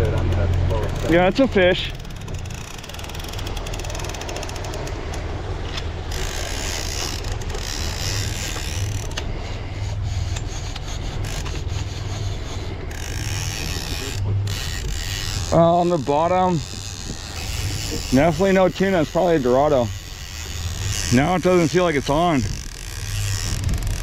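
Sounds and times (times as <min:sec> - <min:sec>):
fishing reel ratchet clicking: 0:00.0 - 0:24.0
low steady rumble: 0:00.0 - 0:24.0.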